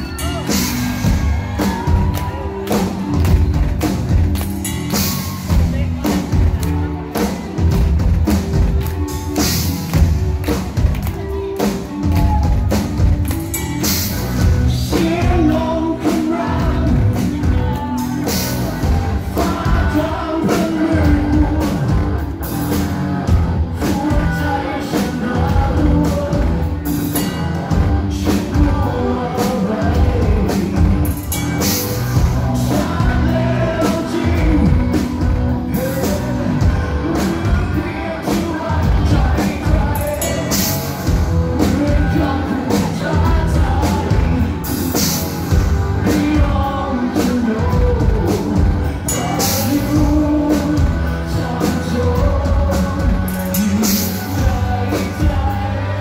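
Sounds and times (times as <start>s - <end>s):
electric guitars: 0.0s - 56.0s
steady drum beat: 0.0s - 56.0s
man singing: 9.1s - 56.0s.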